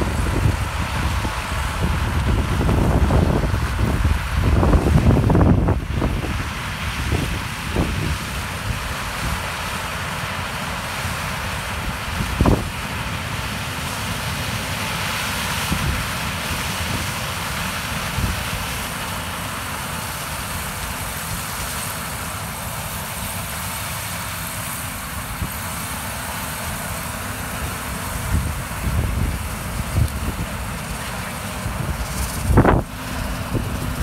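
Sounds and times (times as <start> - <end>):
combine harvester engine drone: 0.0 - 34.0.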